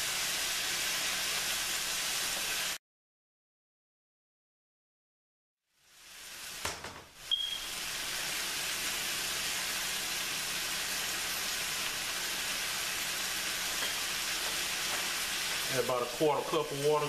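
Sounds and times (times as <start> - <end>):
meat and peppers sizzling: 0.0 - 2.8, 5.7 - 17.0.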